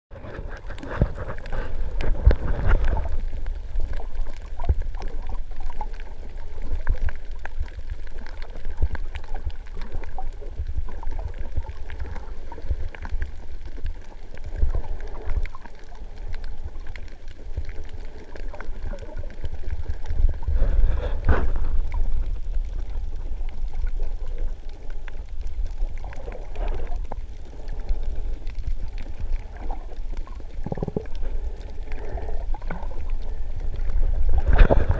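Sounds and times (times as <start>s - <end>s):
muffled underwater rumble: 0.1s - 34.9s.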